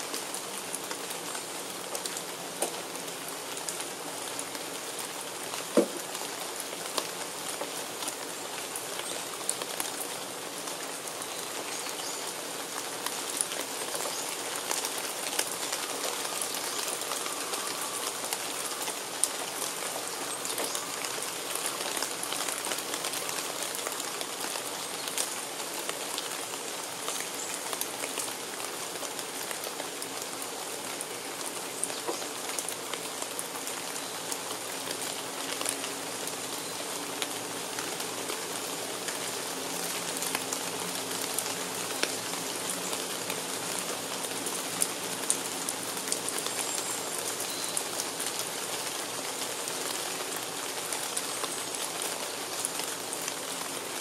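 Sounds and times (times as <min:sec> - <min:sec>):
rain falling on foliage: 0:00.0 - 0:54.0.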